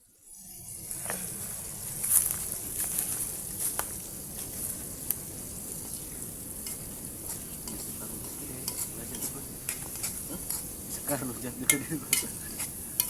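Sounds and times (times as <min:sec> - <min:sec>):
fire sizzling hiss: 0:00.0 - 0:13.0
fire crackling: 0:00.1 - 0:13.0.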